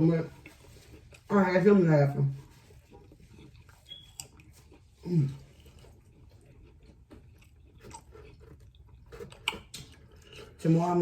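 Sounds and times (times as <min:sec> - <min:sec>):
person chewing: 0:00.2 - 0:01.8, 0:02.4 - 0:11.0.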